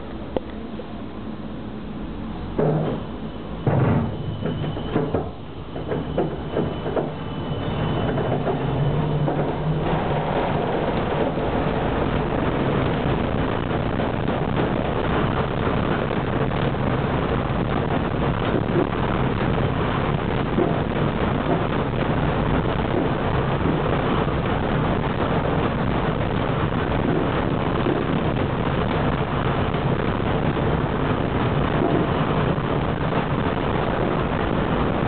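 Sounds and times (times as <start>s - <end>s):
tram wheels rumbling on rails: 1.4s - 35.0s.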